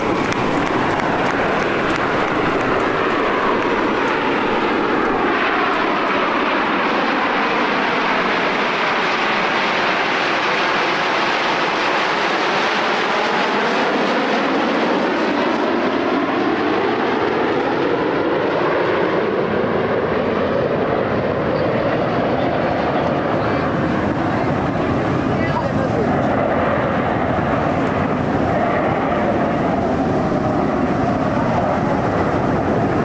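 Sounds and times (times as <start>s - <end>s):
jet aircraft flying past: 0.0s - 33.0s.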